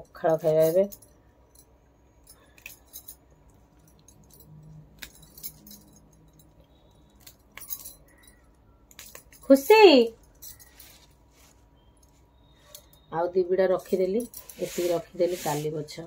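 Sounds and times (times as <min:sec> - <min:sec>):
bangles clinking: 0:00.0 - 0:16.0.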